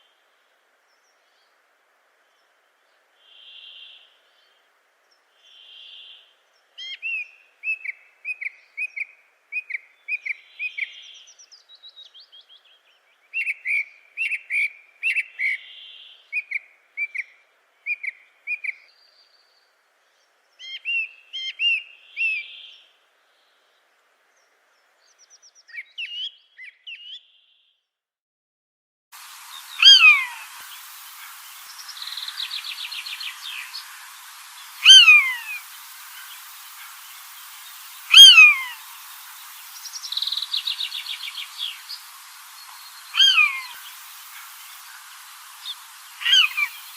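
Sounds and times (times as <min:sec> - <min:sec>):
background hiss: 0:00.0 - 0:26.8, 0:29.2 - 0:46.9
songbirds chirping: 0:00.0 - 0:27.9, 0:29.2 - 0:46.9.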